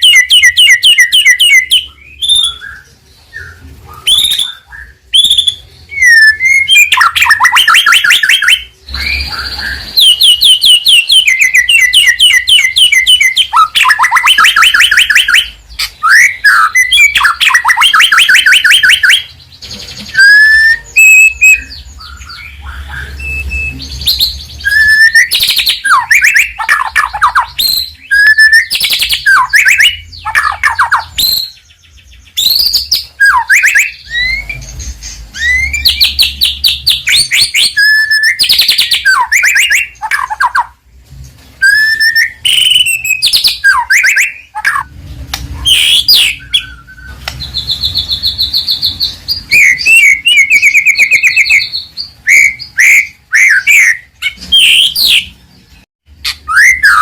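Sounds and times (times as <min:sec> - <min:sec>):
songbird singing whistles and trills: 0:00.0 - 0:40.8, 0:41.6 - 0:57.0.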